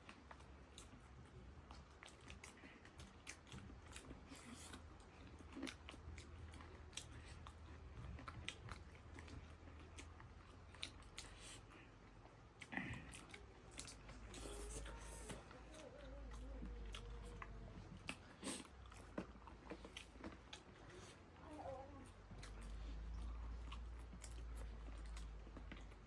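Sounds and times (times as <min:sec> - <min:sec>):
person chewing and crunching: 0:00.0 - 0:26.0.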